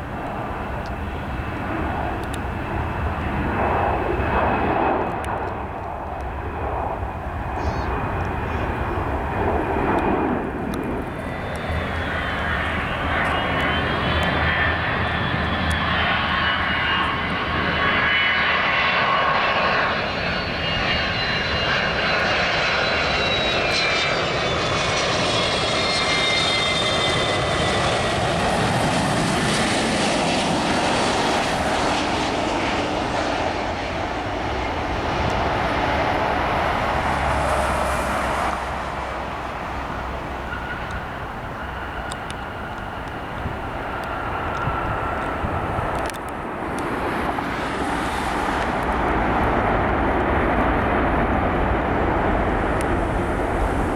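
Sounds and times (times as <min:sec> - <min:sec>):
jet plane flying past: 0:00.0 - 0:53.9.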